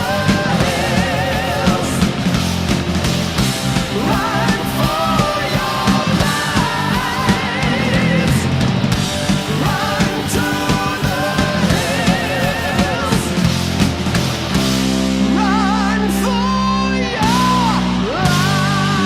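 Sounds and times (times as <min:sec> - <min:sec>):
drums: 0:00.0 - 0:19.0
rock music with singing: 0:00.0 - 0:19.0.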